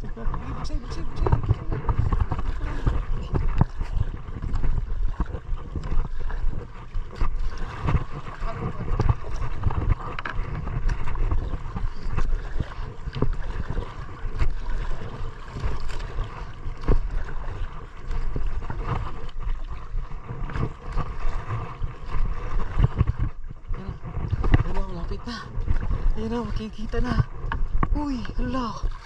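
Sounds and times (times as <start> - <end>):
water sloshing against hull: 0.0 - 29.0
wind buffeting microphone: 0.0 - 29.0.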